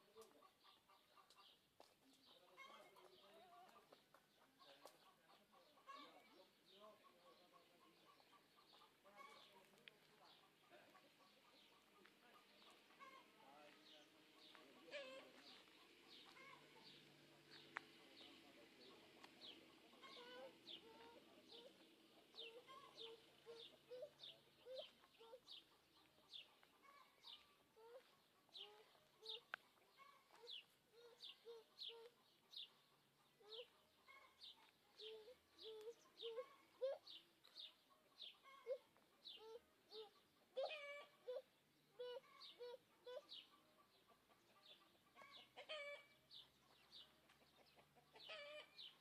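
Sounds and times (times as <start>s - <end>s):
hens clucking: 0.0s - 1.6s, 2.2s - 49.0s.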